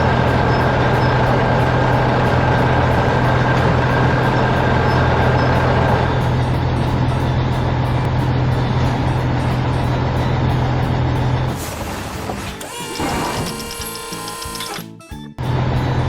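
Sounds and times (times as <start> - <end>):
steady machine whine: 0.0 - 11.6, 12.5 - 16.0
diesel engine drone: 0.0 - 14.8, 15.4 - 16.0.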